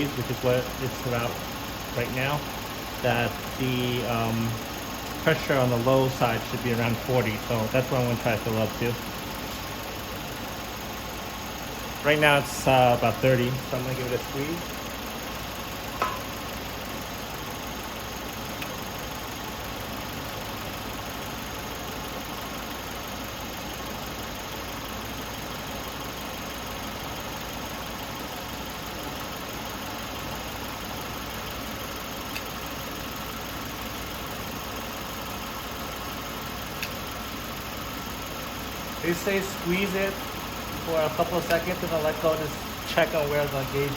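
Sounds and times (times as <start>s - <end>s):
air conditioning running: 0.0s - 43.9s
car engine idling: 0.0s - 43.9s.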